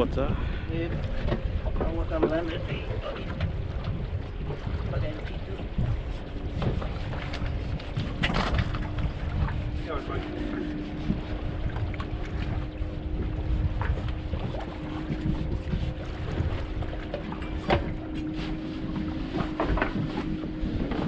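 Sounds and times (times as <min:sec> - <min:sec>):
water slapping boat hull: 0:00.0 - 0:21.0
wind on microphone: 0:00.0 - 0:21.0.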